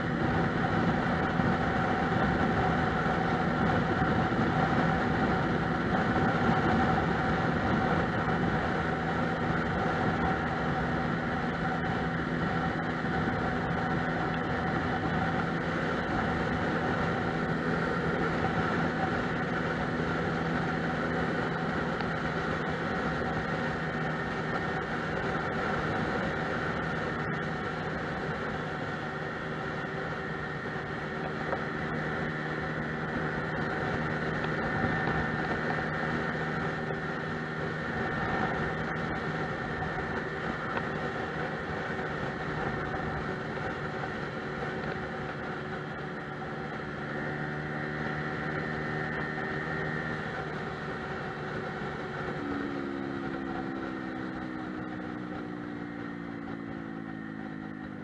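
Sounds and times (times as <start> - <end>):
road and wind noise: 0.0 - 58.0
scooter engine running: 0.0 - 58.0.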